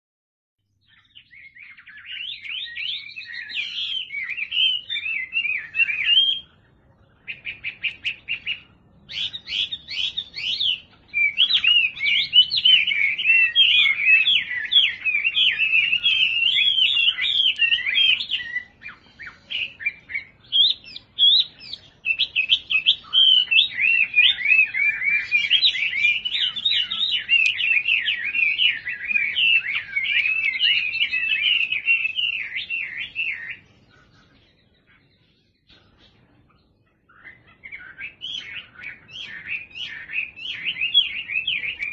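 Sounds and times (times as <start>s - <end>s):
bird singing whistled phrases: 0.8s - 41.9s.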